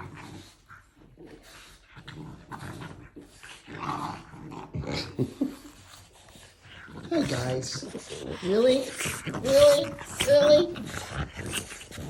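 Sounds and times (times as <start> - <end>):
dogs playing and making noises: 0.0 - 12.0.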